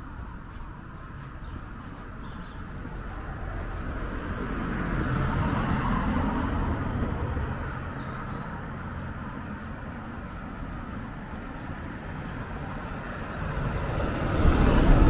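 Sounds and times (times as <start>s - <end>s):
low traffic hum: 0.0s - 15.0s
vehicle passing by: 0.0s - 15.0s.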